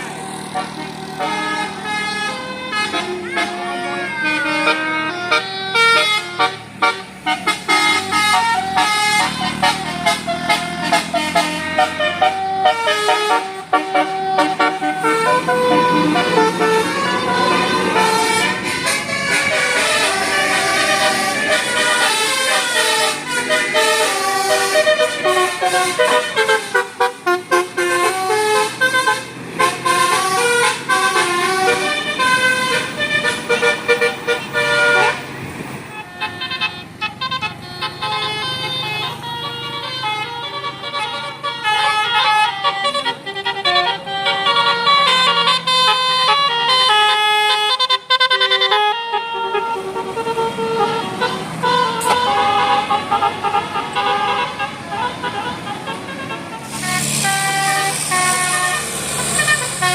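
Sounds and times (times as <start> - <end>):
multi-tone bus horns playing melodies: 0.0 - 59.9.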